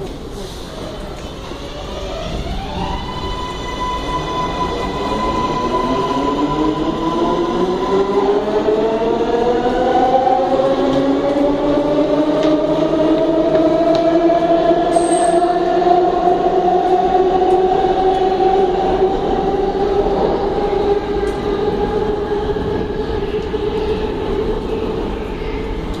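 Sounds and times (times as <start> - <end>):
subway train whine rising: 0.0 - 26.0.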